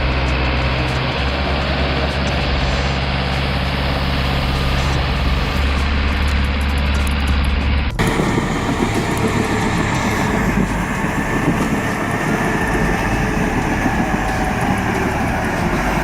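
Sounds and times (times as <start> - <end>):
heavy machinery engine rumble: 0.0 - 16.0
rapid rattling and clanking: 0.0 - 16.0.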